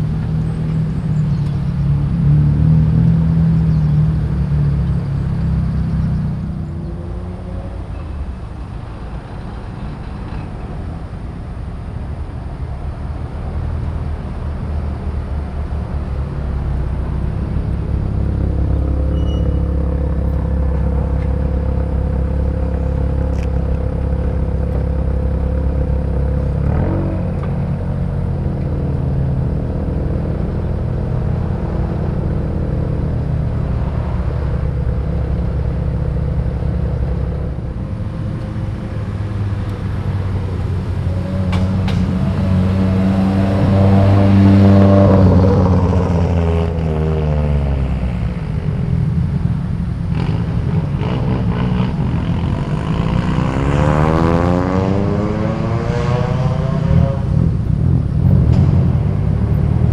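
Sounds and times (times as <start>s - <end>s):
steady low rumble: 0.0s - 53.0s
cars driving past: 0.0s - 59.9s.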